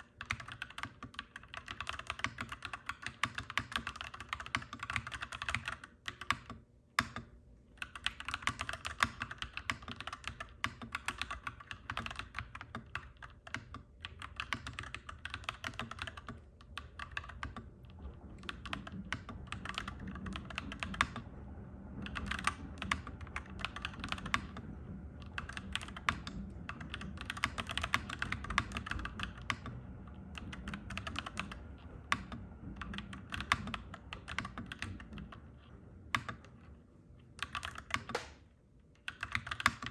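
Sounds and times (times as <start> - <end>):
typing on mechanical keyboard: 0.0 - 21.3, 22.0 - 35.5, 36.1 - 36.6, 37.4 - 38.4, 39.0 - 39.9
low background rumble: 7.0 - 39.9.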